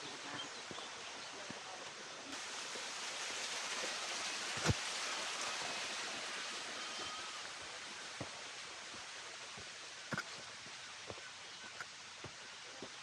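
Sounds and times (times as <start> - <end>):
running stream water: 0.0 - 13.0.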